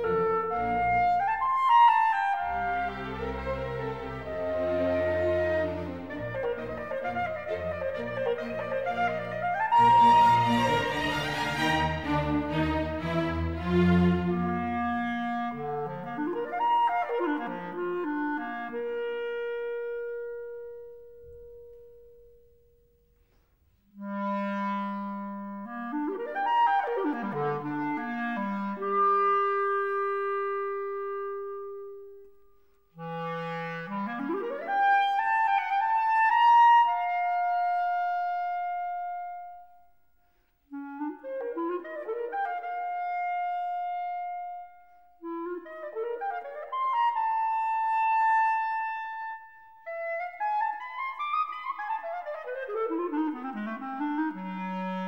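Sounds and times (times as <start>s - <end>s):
clarinet solo: 0.0s - 22.7s, 23.8s - 55.0s.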